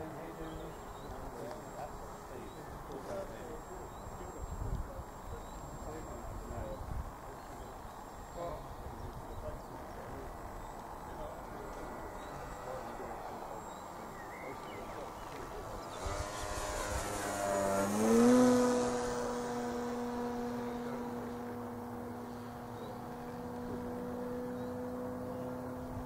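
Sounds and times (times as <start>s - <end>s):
electric motor and propeller humming: 0.0s - 26.0s.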